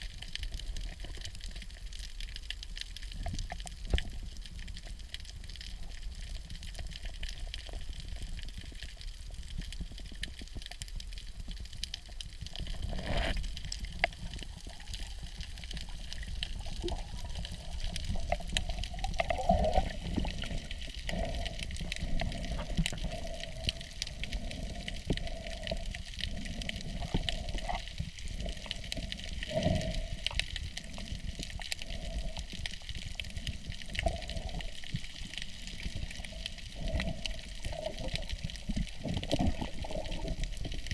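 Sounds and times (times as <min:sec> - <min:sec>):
seawater sloshing underwater: 0:00.0 - 0:40.9.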